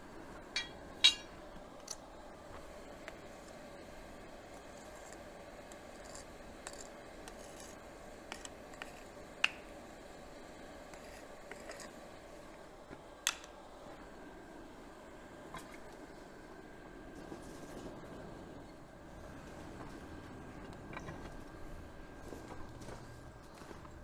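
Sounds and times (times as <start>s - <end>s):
coal forge fire burning: 0.0s - 24.0s
faint fire crackles: 0.0s - 24.0s.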